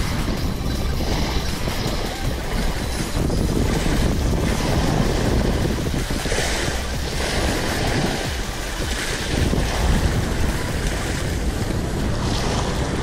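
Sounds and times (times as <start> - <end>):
waves washing in: 0.0 - 13.0
wind buffeting microphone: 0.0 - 13.0.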